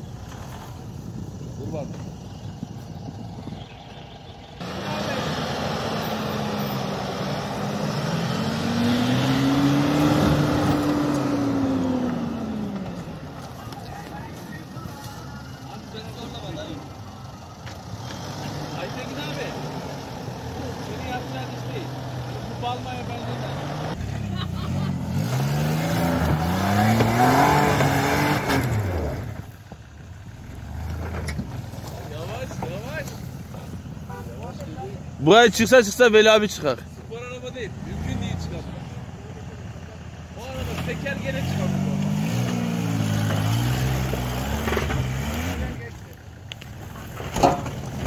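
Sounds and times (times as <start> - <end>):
truck engine revving: 0.0 - 48.0
tyres on snow: 4.6 - 39.2, 40.0 - 48.0.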